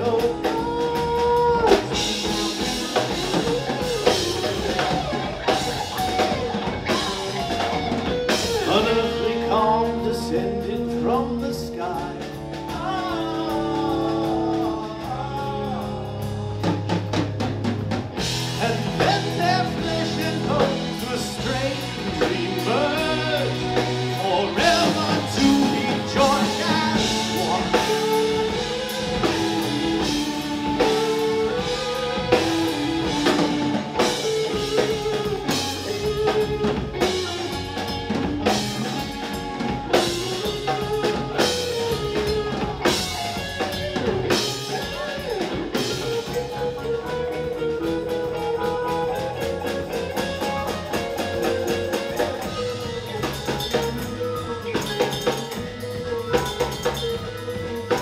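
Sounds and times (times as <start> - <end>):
lead melody: 0.0 - 58.0
live rock band playing: 0.0 - 58.0.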